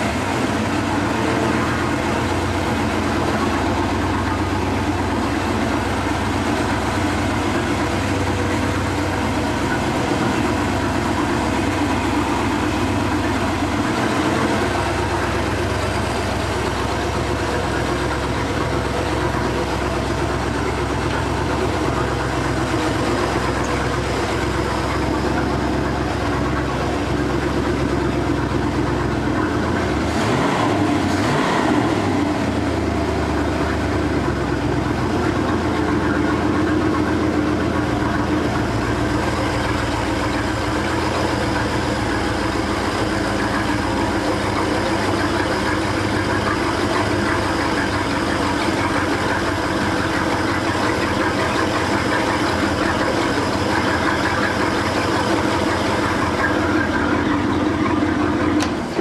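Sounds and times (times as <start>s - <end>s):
boat engine idling: 0.0s - 59.0s.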